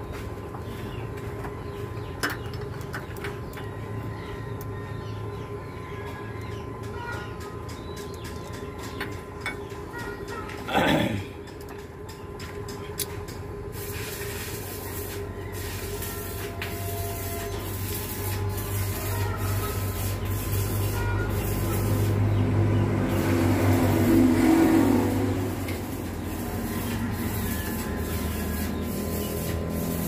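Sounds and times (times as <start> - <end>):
machine humming: 1.2 - 30.0.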